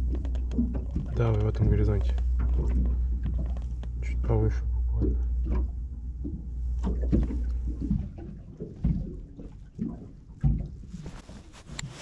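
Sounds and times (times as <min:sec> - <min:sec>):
low rumble: 0:00.0 - 0:11.4
water lapping against boat hull: 0:00.0 - 0:12.0.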